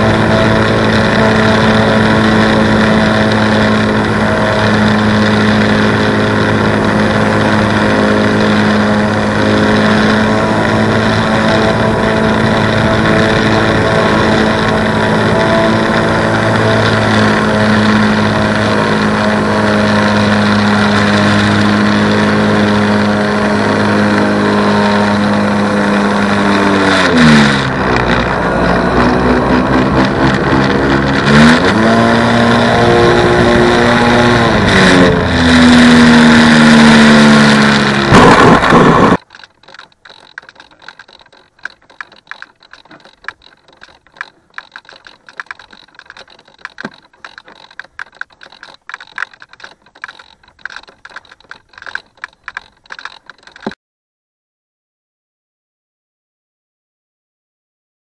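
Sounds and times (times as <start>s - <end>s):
model plane motor drone: 0.0s - 53.8s.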